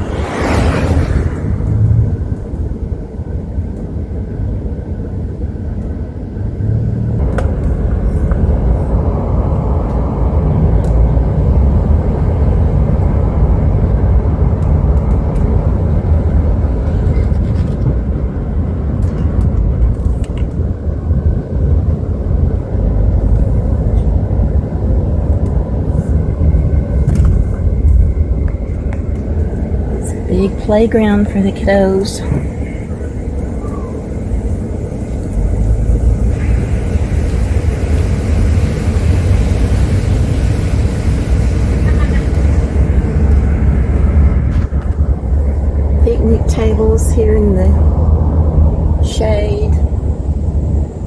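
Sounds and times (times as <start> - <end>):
car road and engine noise: 0.0 - 51.0
low wind rumble: 0.0 - 51.0.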